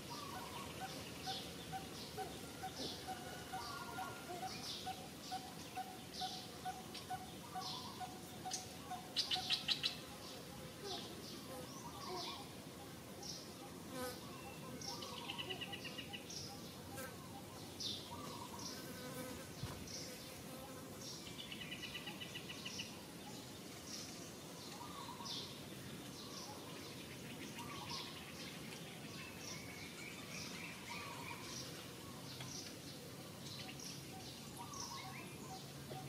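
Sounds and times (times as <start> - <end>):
birds chirping: 0.0 - 18.8, 19.6 - 36.0.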